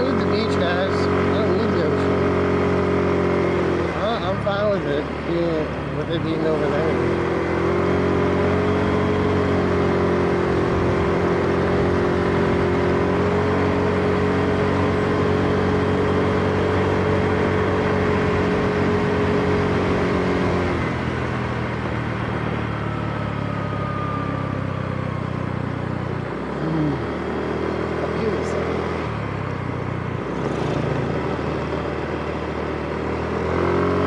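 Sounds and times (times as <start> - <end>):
motor scooter engine running: 0.0 - 34.0.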